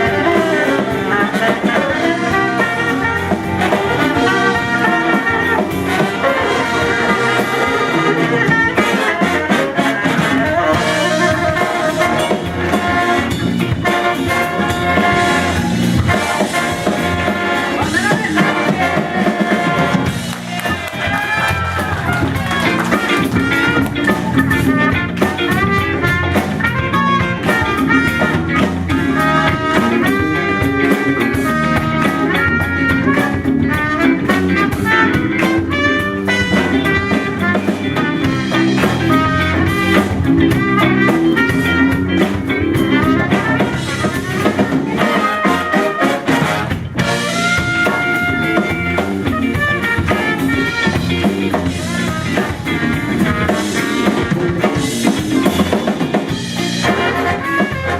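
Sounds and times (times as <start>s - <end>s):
funk band playing: 0.0s - 57.9s
horns playing riffs: 0.0s - 57.9s.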